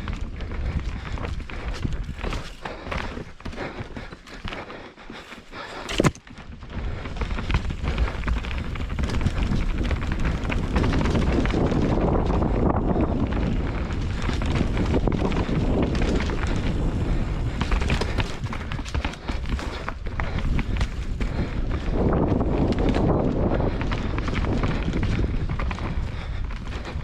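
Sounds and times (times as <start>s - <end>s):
wind buffeting microphone: 0.0s - 4.1s, 5.5s - 27.0s
bike rattling and clicking: 0.0s - 27.0s.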